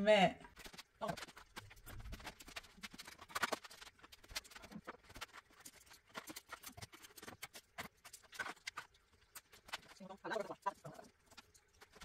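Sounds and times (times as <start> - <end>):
small objects clicking and tapping: 0.4 - 12.0.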